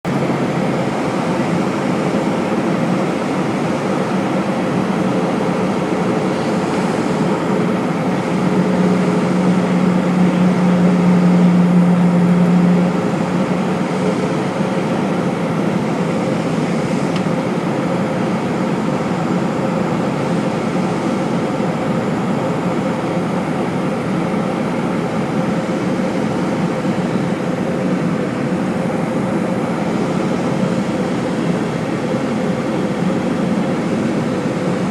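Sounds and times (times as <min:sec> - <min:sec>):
aircraft engines droning: 0:00.0 - 0:34.9
rushing air: 0:00.1 - 0:34.9.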